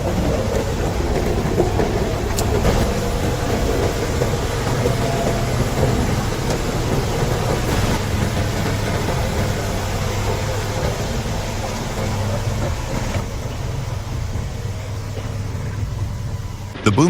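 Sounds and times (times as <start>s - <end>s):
heavy vehicle engine rumbling: 0.0s - 17.0s.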